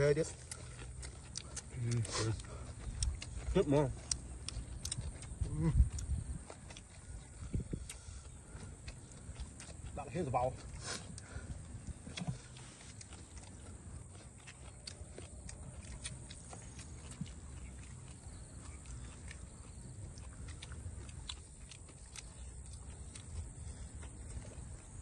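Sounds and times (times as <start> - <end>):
chewing and smacking: 0.0 - 25.0
fingers picking at food: 0.0 - 25.0
low steady rumble: 0.0 - 25.0.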